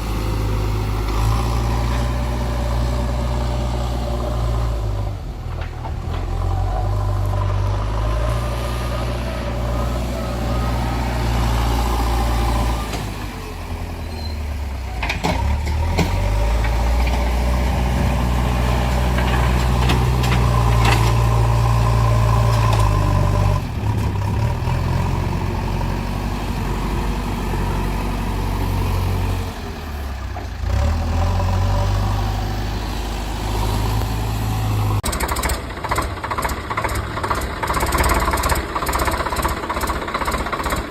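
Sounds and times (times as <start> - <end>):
heavy vehicle engine droning: 0.0 - 40.9.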